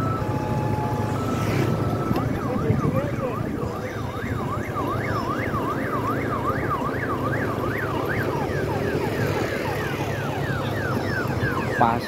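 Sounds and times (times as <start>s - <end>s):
electronic siren wailing: 0.0s - 12.0s.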